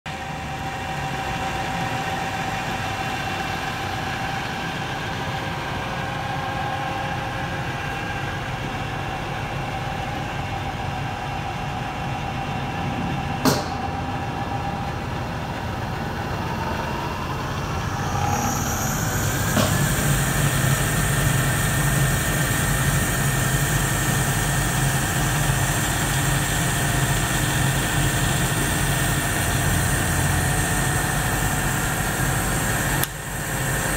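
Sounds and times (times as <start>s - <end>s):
lathe machine hum: 0.1s - 33.9s
lathe spindle whine: 0.1s - 33.9s.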